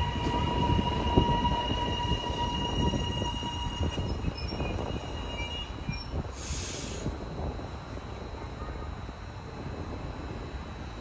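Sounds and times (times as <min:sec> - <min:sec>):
train wheels rumbling and clattering: 0:00.0 - 0:10.3.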